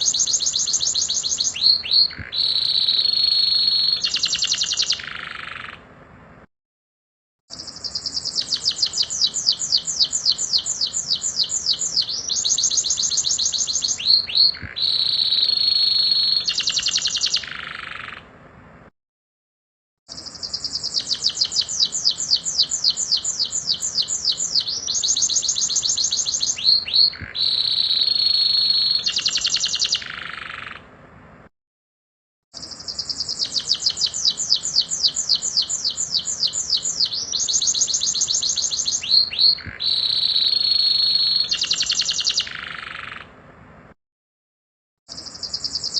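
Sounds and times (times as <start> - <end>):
canary singing trills: 0.0 - 5.9, 7.5 - 18.3, 20.1 - 30.9, 32.6 - 43.4, 45.1 - 45.9.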